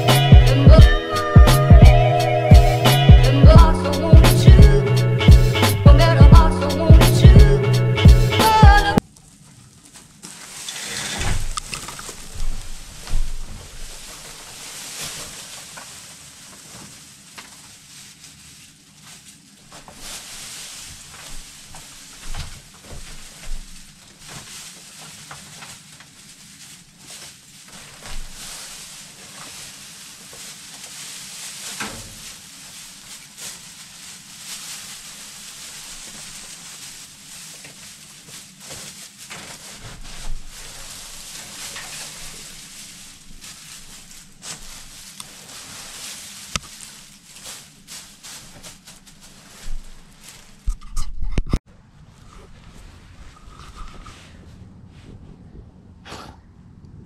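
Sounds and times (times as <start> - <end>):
straw rustling and crackling: 8.0 - 55.2.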